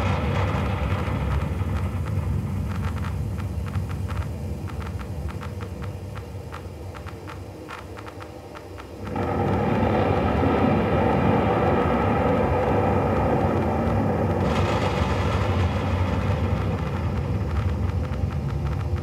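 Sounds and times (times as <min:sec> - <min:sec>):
rain-like hiss: 0:00.0 - 0:19.0
storm rumble: 0:00.0 - 0:19.0.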